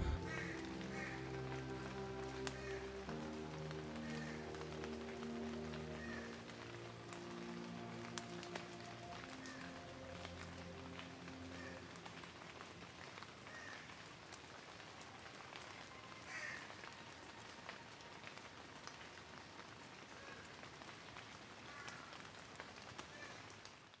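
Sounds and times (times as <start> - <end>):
light rain pattering: 0.0 - 24.0.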